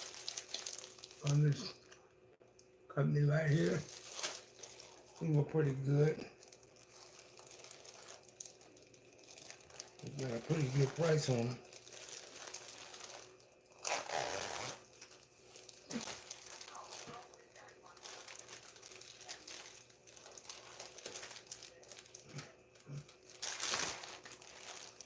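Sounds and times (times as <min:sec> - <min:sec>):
plastic packaging crinkling: 0:00.0 - 0:02.0, 0:03.4 - 0:25.0.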